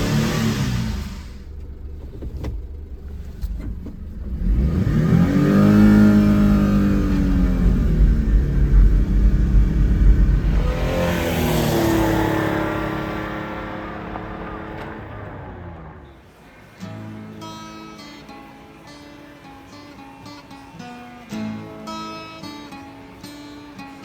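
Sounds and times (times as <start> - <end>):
small truck engine accelerating: 0.0 - 24.0.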